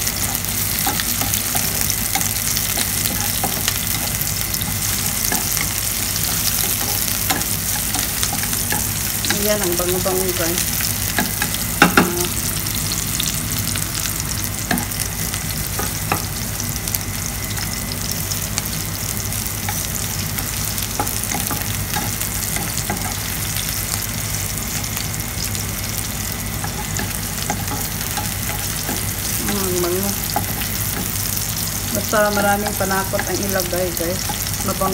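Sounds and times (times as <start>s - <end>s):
onion sizzling in hot oil: 0.0s - 34.9s.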